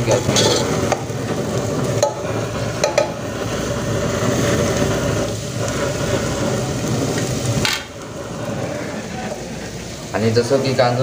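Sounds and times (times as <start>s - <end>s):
roar of wood fire flames: 0.0s - 11.0s.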